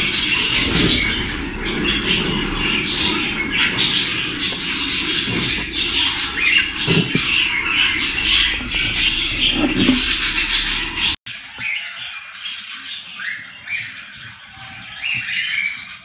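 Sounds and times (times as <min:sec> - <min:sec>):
bird chicks squawking: 0:00.0 - 0:16.0.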